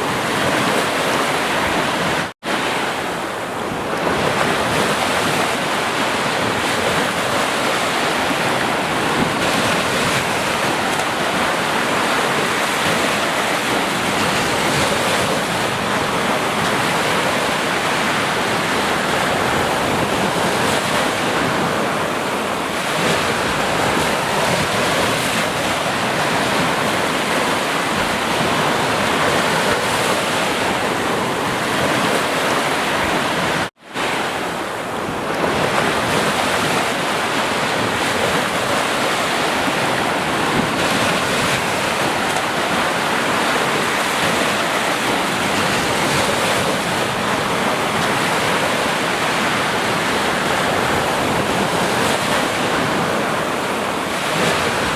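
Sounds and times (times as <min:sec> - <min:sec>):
sea waves washing onto shore: 0:00.0 - 0:54.9.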